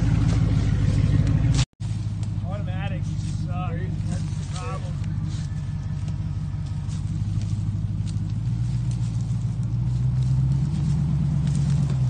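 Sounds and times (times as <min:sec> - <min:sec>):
suv engine running low: 0:00.0 - 0:12.0.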